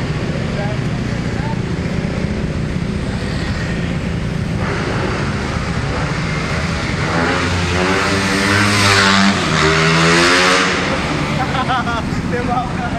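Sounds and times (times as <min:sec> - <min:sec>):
motorcycle engines running: 0:00.0 - 0:12.9.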